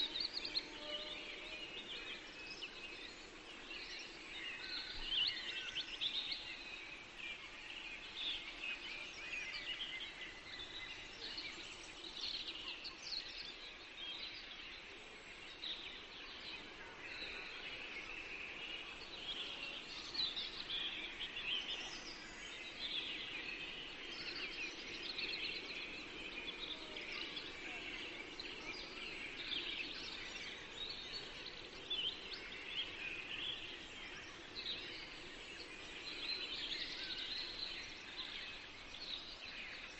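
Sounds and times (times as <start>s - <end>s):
faint background hiss: 0.0s - 39.9s
small birds singing and chirping: 0.0s - 39.9s.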